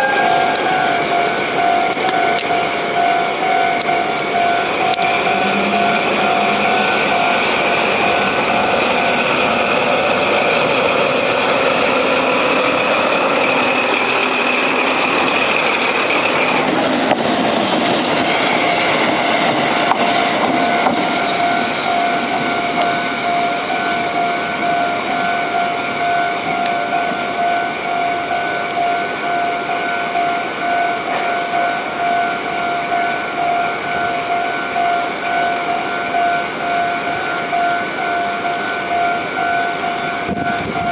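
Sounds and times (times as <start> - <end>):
diesel locomotives passing: 0.0 - 40.9
level-crossing warning bell: 0.0 - 40.9.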